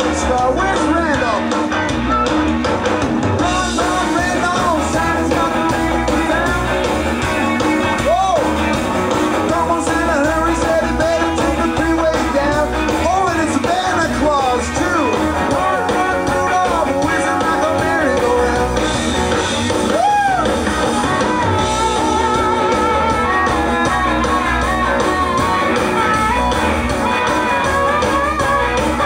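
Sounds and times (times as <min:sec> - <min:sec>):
rock band playing: 0:00.0 - 0:29.0
person singing: 0:03.4 - 0:19.0, 0:19.8 - 0:29.0.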